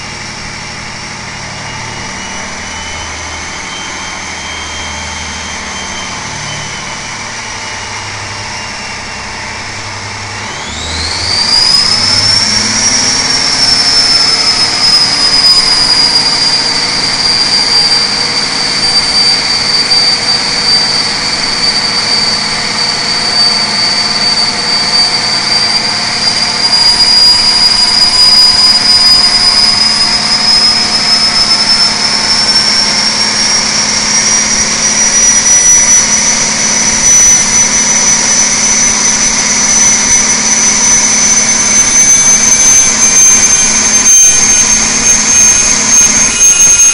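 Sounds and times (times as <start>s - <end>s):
diesel engine running: 0.0s - 46.9s
high turbocharger whine: 0.0s - 46.9s.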